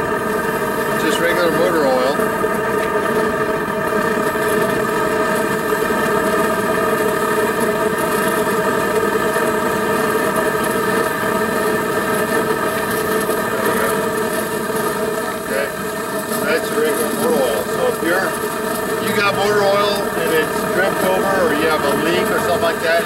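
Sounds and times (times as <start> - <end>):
mechanical drone with held tones: 0.0 - 23.0.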